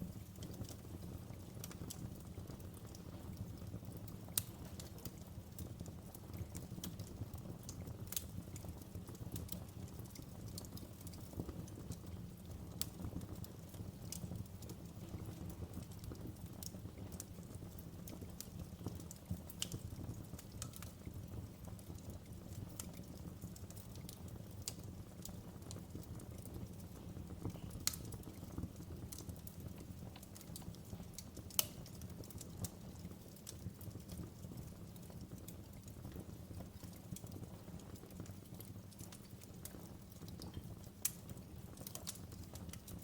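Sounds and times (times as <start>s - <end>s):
low fire rumble: 0.0s - 43.0s
wood fire crackling and popping: 0.0s - 43.0s.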